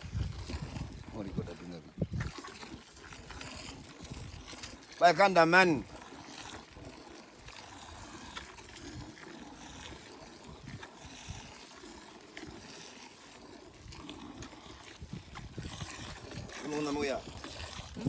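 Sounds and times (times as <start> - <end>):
milk squirting into metal bucket: 0.0 - 18.0.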